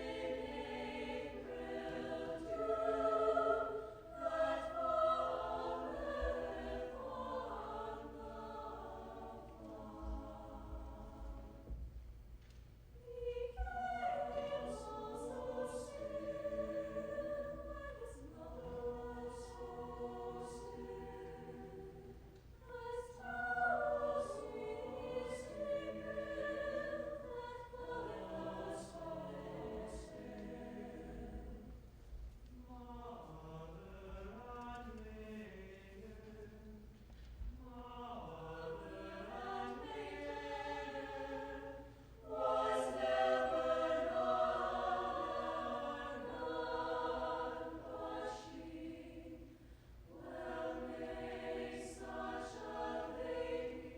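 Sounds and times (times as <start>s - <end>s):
choir singing sustained chords: 0.0s - 12.0s, 13.0s - 53.9s.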